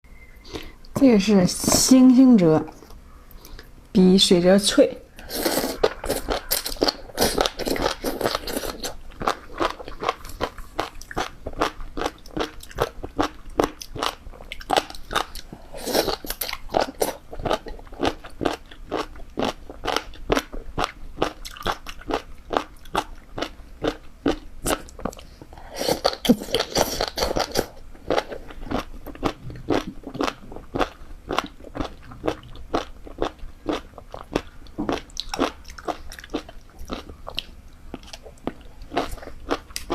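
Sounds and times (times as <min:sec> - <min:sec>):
crisp crunching and chewing: 0:05.3 - 0:25.3, 0:25.9 - 0:39.9.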